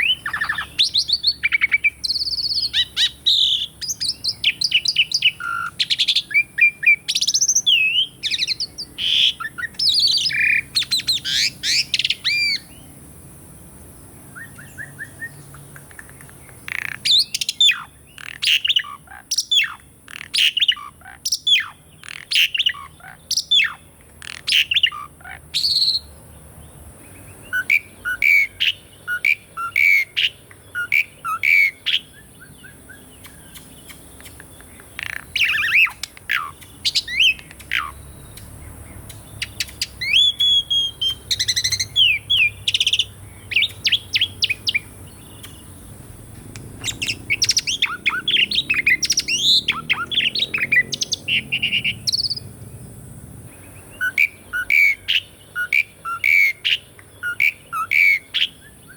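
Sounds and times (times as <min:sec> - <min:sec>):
starling singing: 0:00.0 - 0:13.0, 0:14.3 - 0:26.2, 0:27.1 - 0:52.5, 0:53.5 - 0:58.9.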